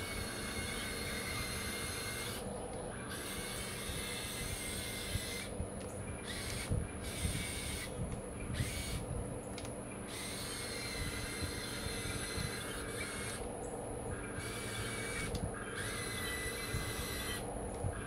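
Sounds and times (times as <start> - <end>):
high motor whine: 0.0 - 18.0
small electric motors whirring: 0.0 - 18.0.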